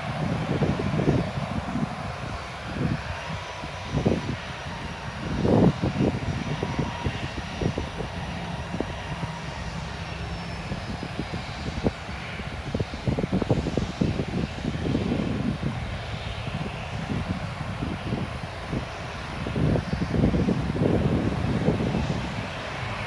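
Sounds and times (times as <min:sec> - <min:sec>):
distant jet engines rumbling: 0:00.0 - 0:23.0
wind buffeting microphone: 0:00.0 - 0:23.0.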